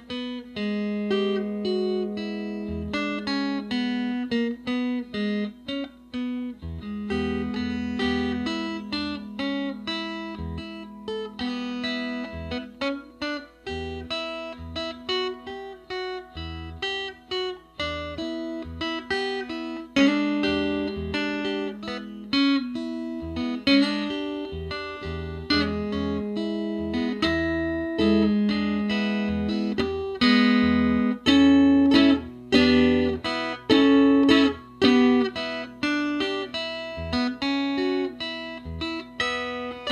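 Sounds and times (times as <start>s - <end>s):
fingerpicked guitar: 0.0s - 39.9s.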